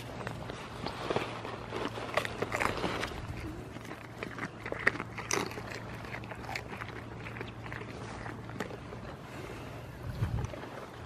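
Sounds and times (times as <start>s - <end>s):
goat nibbling a glove: 0.0s - 10.8s
steady low hum: 0.0s - 11.0s.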